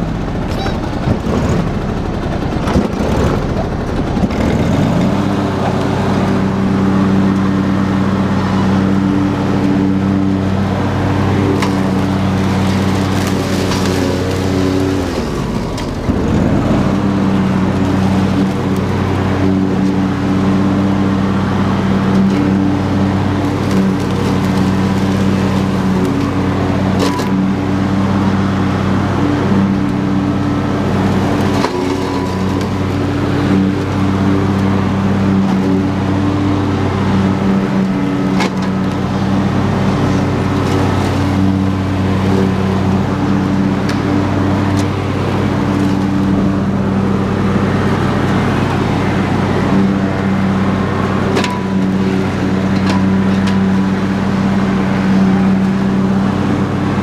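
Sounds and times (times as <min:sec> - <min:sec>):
lawn tractor engine running: 0:00.0 - 0:57.0
mower deck cutting grass: 0:00.0 - 0:57.0.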